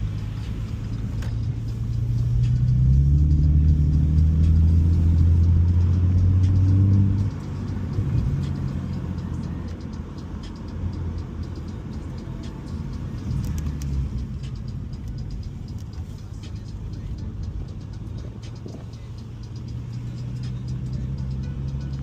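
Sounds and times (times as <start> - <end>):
car exhaust drone from inside: 0.0 - 22.0.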